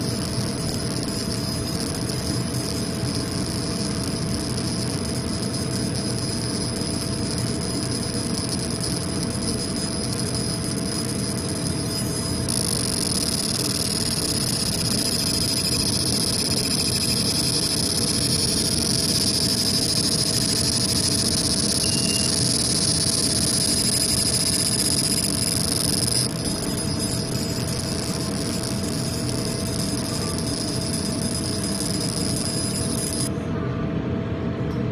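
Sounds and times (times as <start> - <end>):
laser engraver hum and whine: 0.0 - 34.9.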